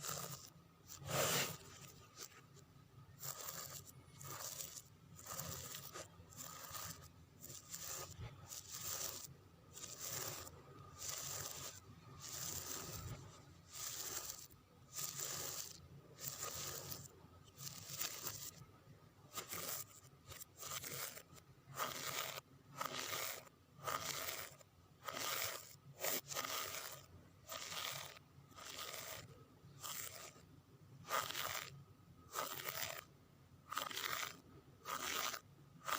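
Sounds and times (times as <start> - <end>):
fingernails scratching a surface: 0.0 - 2.5, 3.2 - 18.6, 19.3 - 30.4, 31.0 - 33.1, 33.7 - 35.9.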